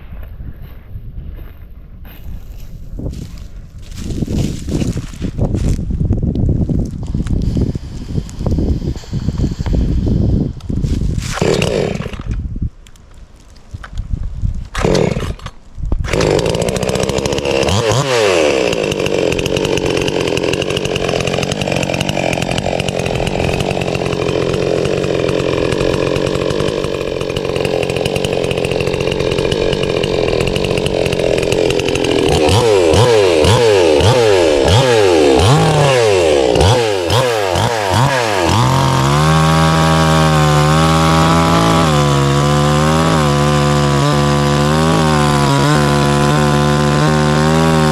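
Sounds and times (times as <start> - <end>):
chainsaw cutting wood: 6.9 - 12.5, 14.6 - 47.9.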